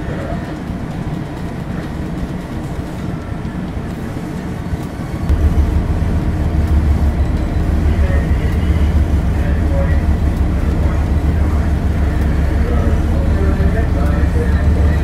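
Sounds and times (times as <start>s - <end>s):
ship engines droning: 0.0s - 15.0s.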